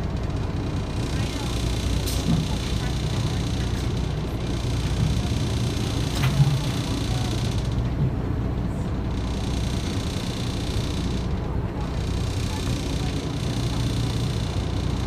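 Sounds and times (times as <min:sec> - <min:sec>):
boat engine rumble: 0:00.0 - 0:15.0
wind: 0:00.0 - 0:15.0.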